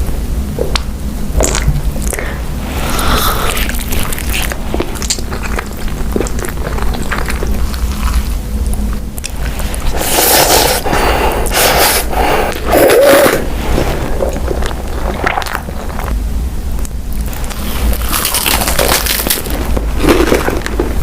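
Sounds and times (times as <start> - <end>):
person biting and chewing food: 0.6 - 16.2, 16.8 - 21.0.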